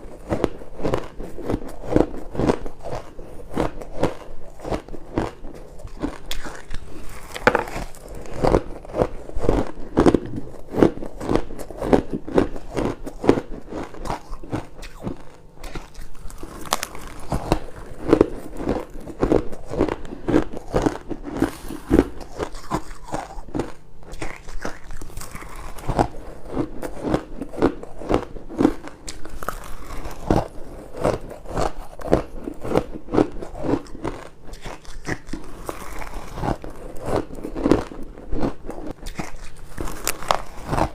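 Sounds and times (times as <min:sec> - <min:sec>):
ice crunching being bitten: 0:00.2 - 0:40.9.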